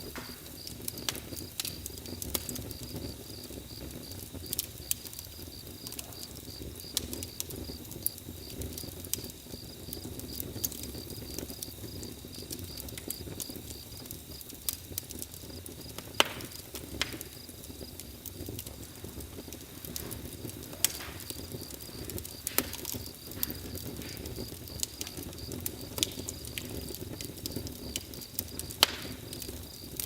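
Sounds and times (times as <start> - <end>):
campfire crackling and popping: 0.0 - 30.0
crickets chirping: 0.0 - 30.0.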